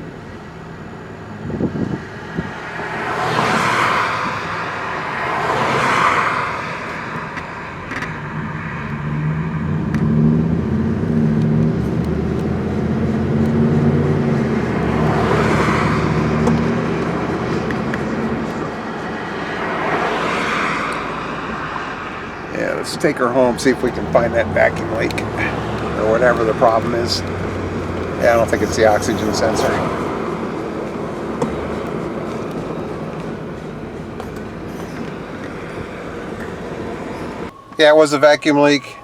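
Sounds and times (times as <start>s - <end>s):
car engine hum: 0.0s - 39.0s
traffic rushing by: 0.0s - 39.0s
tyre and road noise: 0.0s - 39.0s.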